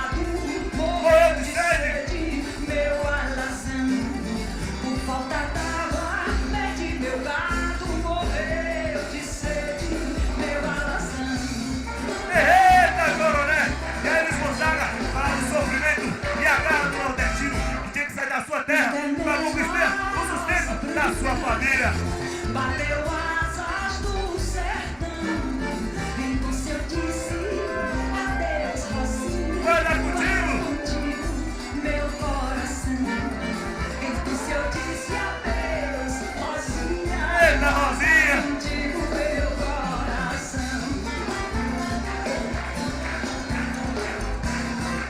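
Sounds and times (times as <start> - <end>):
person singing: 0.0 - 17.8, 18.8 - 44.8
instrumental music with pulsing bass: 0.0 - 18.0, 19.1 - 45.0.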